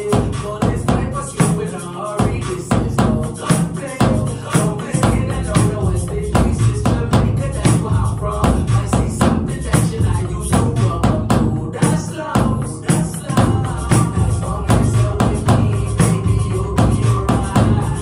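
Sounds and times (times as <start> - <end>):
backing song with steady beat: 0.0 - 18.0.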